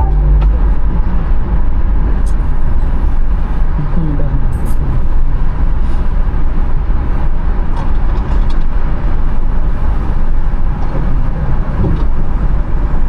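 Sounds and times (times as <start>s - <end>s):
car interior road and engine rumble: 0.0s - 13.0s.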